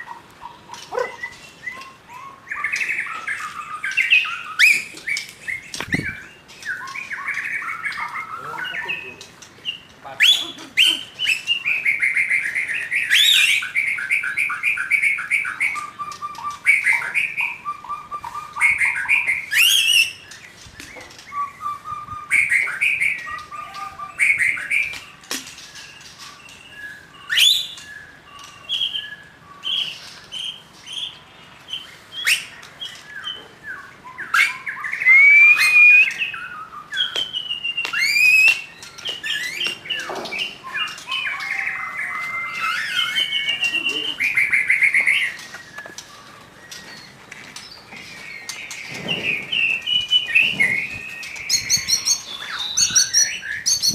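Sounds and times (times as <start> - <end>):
shama bird singing: 0.0 - 53.9.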